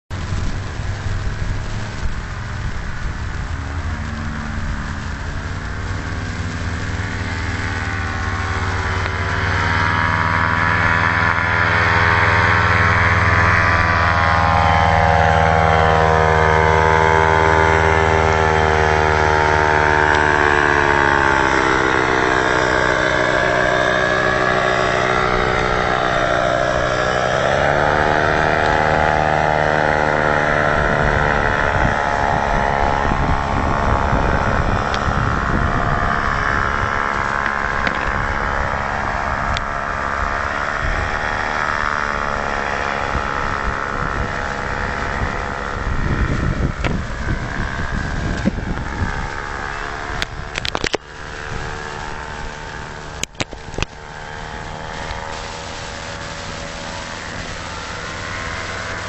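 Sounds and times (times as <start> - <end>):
paramotor engine flying overhead: 0.1 - 59.0.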